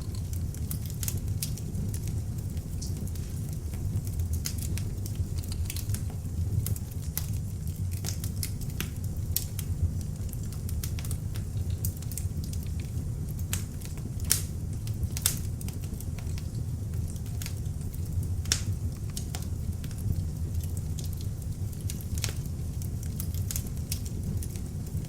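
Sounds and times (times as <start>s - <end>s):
log fire crackling: 0.0s - 25.0s
low rush of flames: 0.2s - 25.0s.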